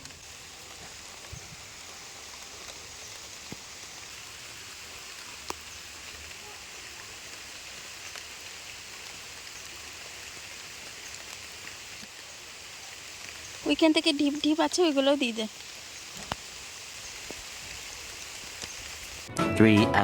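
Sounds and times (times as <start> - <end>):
steady rain falling: 0.0 - 19.3.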